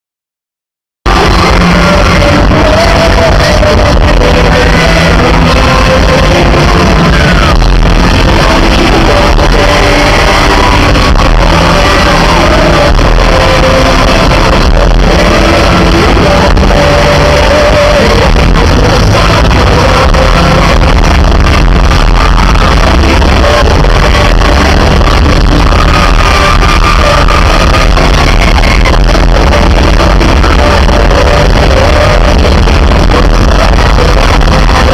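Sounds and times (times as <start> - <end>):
distorted live pop music: 1.1 - 34.9
male group vocals: 1.1 - 34.9.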